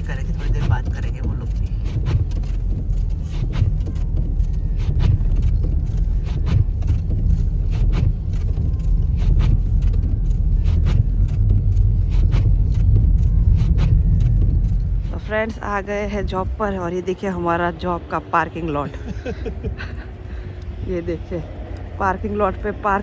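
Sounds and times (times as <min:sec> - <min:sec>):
low rumble of engine and tyres: 0:00.0 - 0:23.0.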